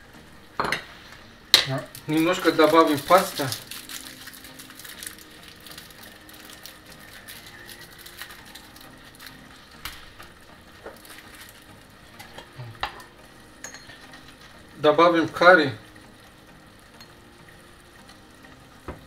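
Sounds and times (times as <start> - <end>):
sauce simmering in a pot: 0.2 - 19.0.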